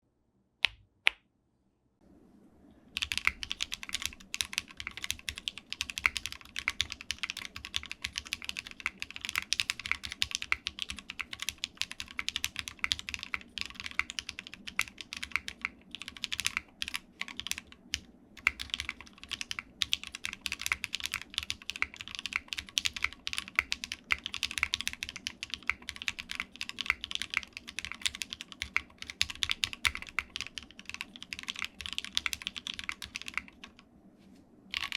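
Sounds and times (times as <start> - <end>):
mechanical keyboard typing: 3.0 - 33.8.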